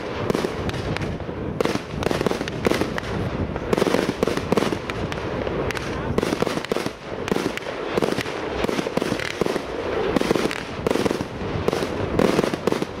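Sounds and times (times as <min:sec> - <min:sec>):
crackling hiss: 0:00.0 - 0:13.0
firework shots and bursts: 0:00.0 - 0:13.0.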